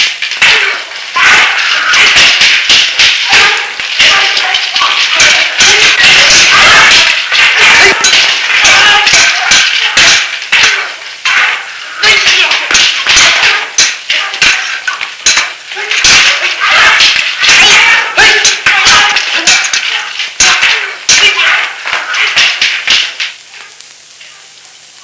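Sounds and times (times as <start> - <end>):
sword blades clashing: 0.0 - 23.7.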